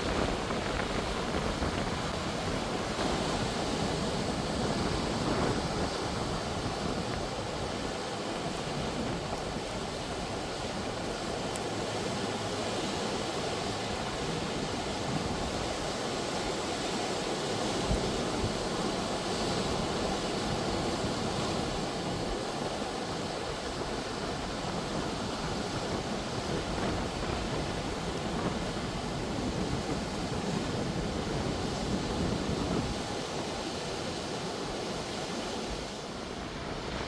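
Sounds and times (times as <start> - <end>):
waves breaking on shore: 0.0 - 37.0.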